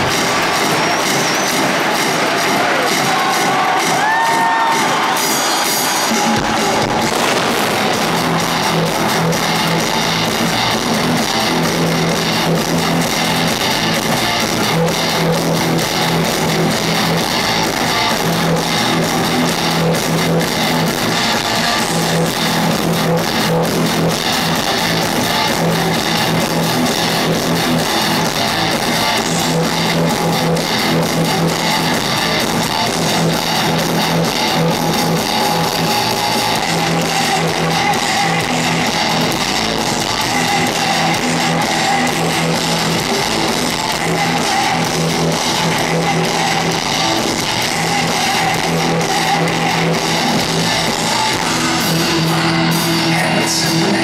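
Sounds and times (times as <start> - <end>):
distorted electric guitar riff: 0.0 - 54.0
drums: 0.0 - 54.0
bass guitar: 5.9 - 54.0.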